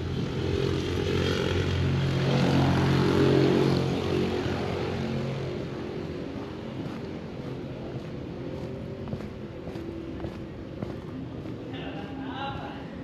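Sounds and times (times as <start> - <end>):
engine passing by: 0.0 - 13.0.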